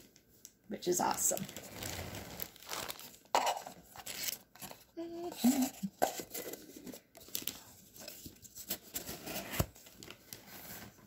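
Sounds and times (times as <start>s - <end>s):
packaging rustling and crinkling: 1.0s - 11.0s.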